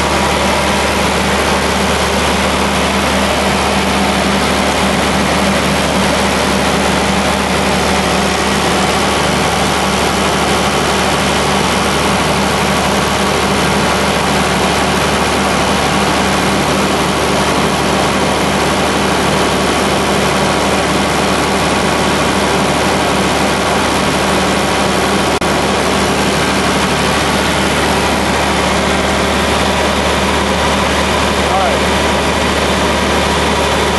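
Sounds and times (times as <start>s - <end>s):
diesel tractor engine idling: 0.0s - 33.9s.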